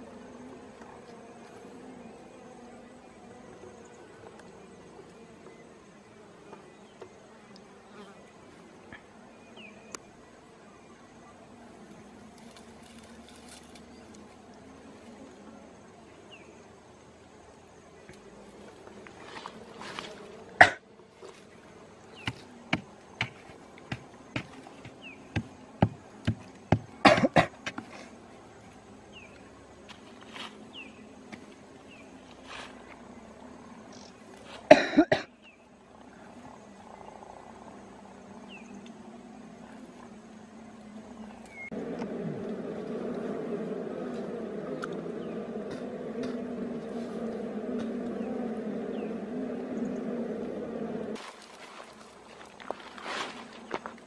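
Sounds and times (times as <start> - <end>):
bees buzzing faintly: 0.0 - 54.0.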